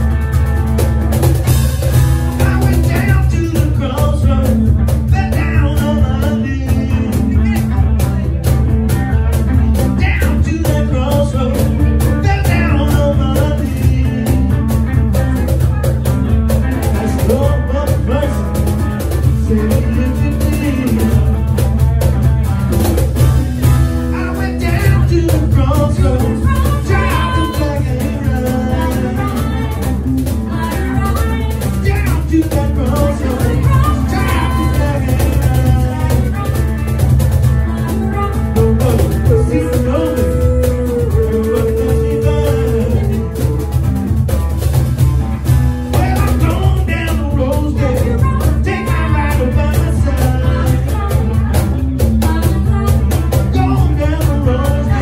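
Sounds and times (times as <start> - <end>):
archtop guitar playing: 0.0 - 55.0
cajon drumming: 0.0 - 55.0
man singing into a microphone: 1.9 - 22.4, 23.3 - 44.1, 45.9 - 55.0.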